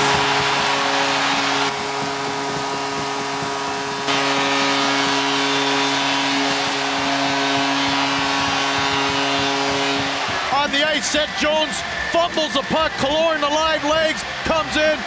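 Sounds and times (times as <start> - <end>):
goal horn blaring: 0.0 - 12.8
crowd cheering: 0.0 - 15.0.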